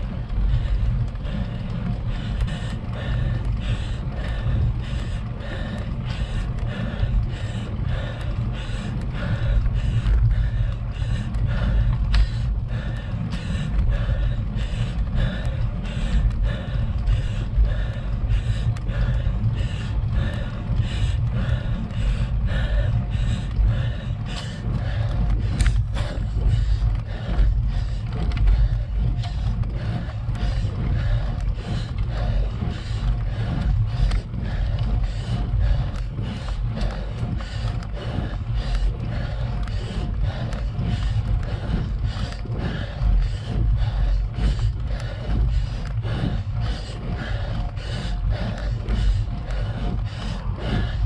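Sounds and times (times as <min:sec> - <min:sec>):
low rumble of road vibration: 0:00.0 - 0:51.0
person breathing hard: 0:00.0 - 0:51.0.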